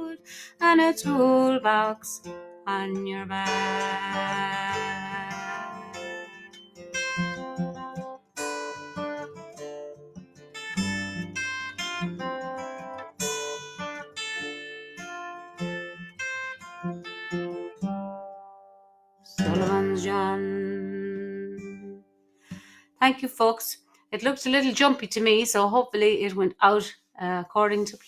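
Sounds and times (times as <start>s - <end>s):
acoustic guitar playing: 0.0s - 22.8s.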